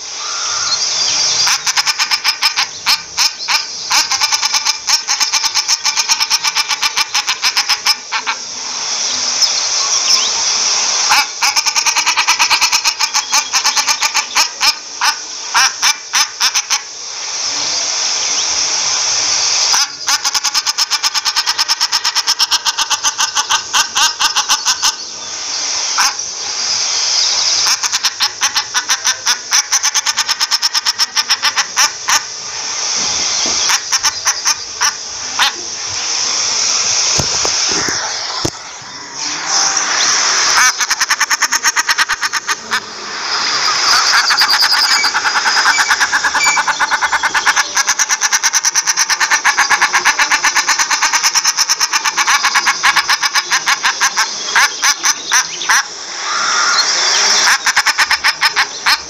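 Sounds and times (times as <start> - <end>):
shelduck calling: 0.0 - 8.5, 11.0 - 17.0, 19.6 - 26.6, 27.6 - 32.7, 33.3 - 36.0, 37.2 - 59.0
steady hiss: 0.0 - 59.0.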